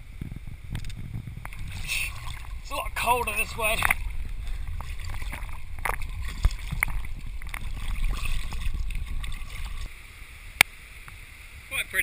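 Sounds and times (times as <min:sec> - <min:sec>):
low microphone rumble: 0:00.0 - 0:11.7
water splashing and sloshing: 0:00.8 - 0:11.2.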